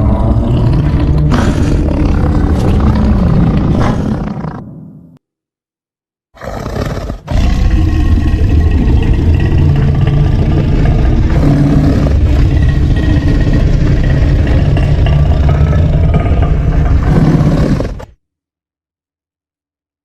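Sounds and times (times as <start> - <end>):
deep monster roar: 0.0 - 4.9, 6.4 - 18.2.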